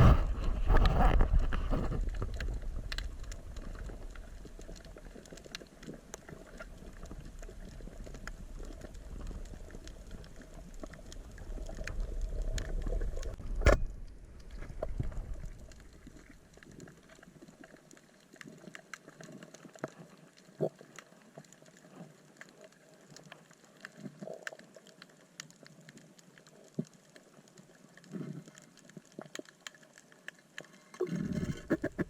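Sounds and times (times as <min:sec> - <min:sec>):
rumbling water: 0:00.0 - 0:32.0.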